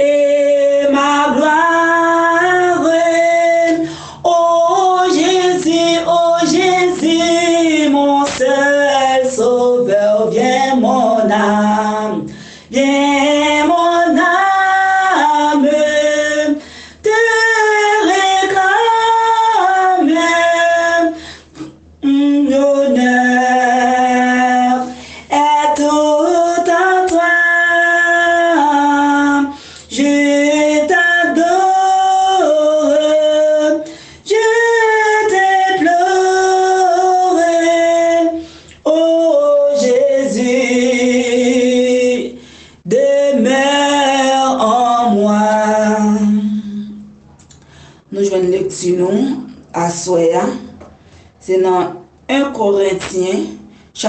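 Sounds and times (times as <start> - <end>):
woman singing a slow hymn: 0.0 - 47.2, 51.4 - 54.0.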